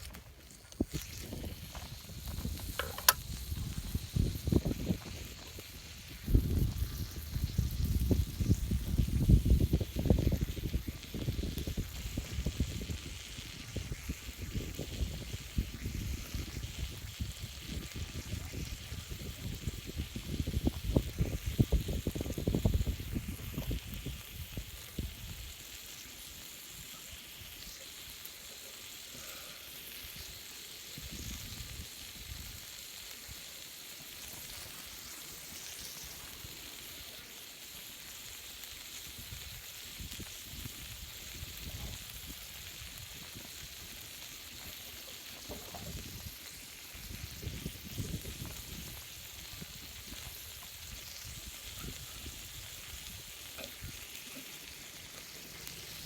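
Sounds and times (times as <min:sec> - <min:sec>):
food sizzling on griddle: 0:00.0 - 0:56.0.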